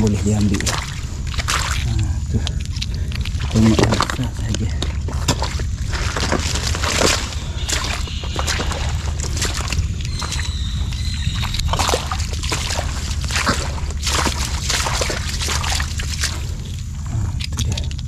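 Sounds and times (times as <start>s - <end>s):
mud and water sloshing: 0.0s - 18.0s
steady low rumble: 0.0s - 18.0s.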